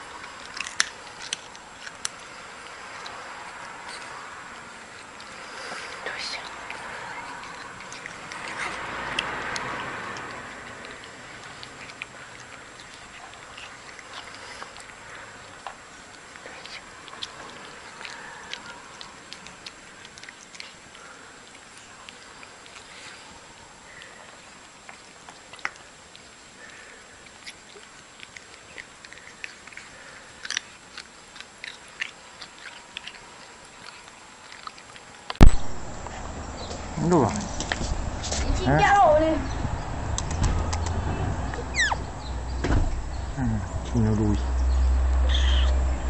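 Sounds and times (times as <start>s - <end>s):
animal chewing food: 0.0s - 46.0s.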